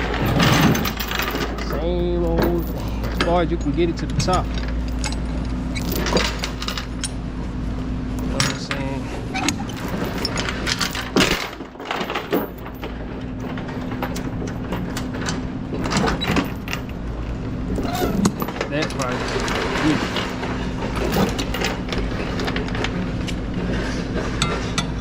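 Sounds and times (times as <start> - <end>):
metal chain clinking and rattling: 0.0 - 7.2, 8.1 - 25.0
steady low hum: 0.0 - 25.0.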